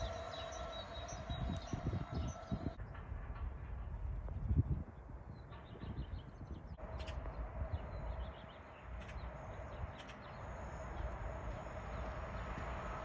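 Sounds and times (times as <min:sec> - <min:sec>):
birds chirping: 0:00.0 - 0:02.8, 0:05.4 - 0:13.0
low rumble: 0:00.0 - 0:13.0.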